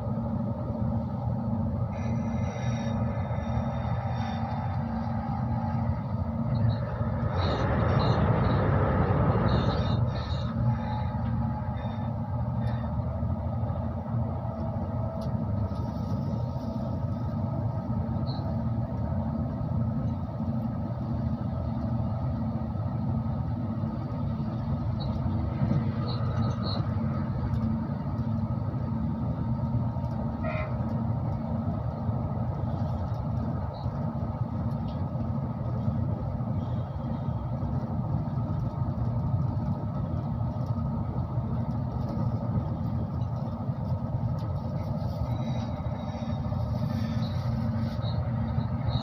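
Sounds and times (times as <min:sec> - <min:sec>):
motor hum: 0:00.0 - 0:49.0
train wheels rumbling on rails: 0:00.0 - 0:49.0.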